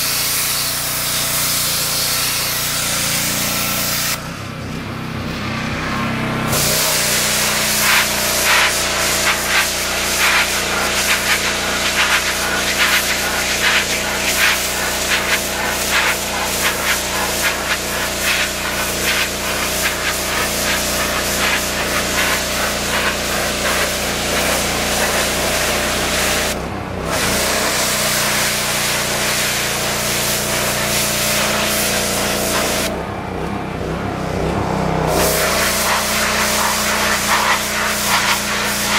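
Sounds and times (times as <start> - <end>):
pressure washer jet spraying: 0.0 - 4.3, 6.5 - 33.0, 35.1 - 38.9
motor and pump humming: 0.0 - 38.9.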